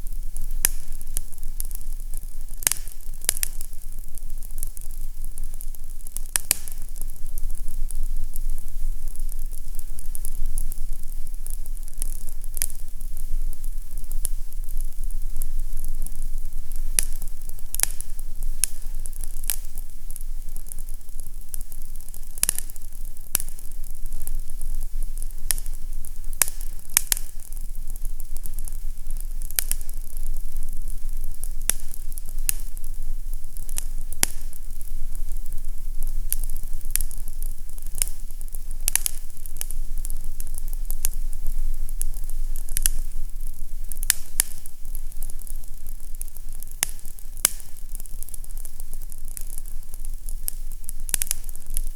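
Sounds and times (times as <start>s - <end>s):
fire crackling and popping: 0.0s - 51.9s
low steady hum: 0.0s - 51.9s
steady hiss: 0.0s - 51.9s.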